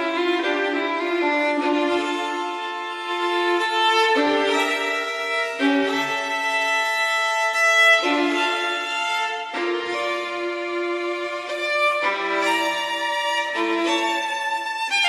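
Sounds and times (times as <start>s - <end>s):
slow bowed string chords: 0.0s - 15.0s.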